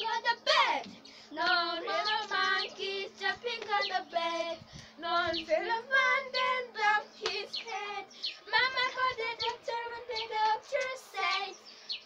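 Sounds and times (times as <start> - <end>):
girls singing together: 0.0 - 11.9.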